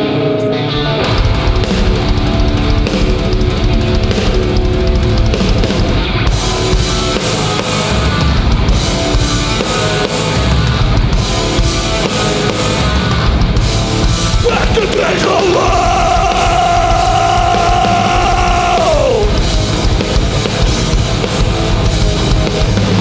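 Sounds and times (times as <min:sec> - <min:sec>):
punk band playing live: 0:00.0 - 0:23.0.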